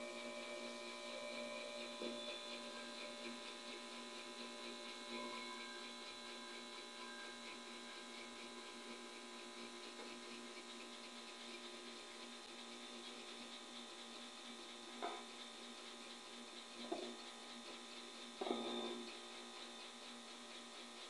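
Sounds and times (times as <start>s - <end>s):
tesla coil electrical hum: 0.0s - 21.0s.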